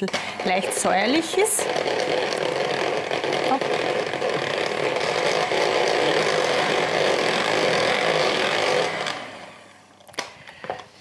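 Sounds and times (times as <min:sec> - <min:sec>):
electric hand mixer whisking: 0:00.0 - 0:10.2.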